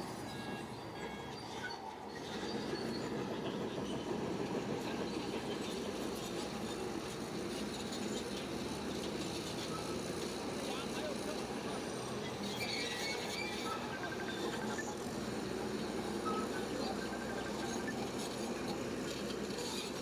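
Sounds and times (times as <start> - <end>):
bulldozer engine running: 0.0 - 20.0
steel tracks clanking: 0.1 - 20.0.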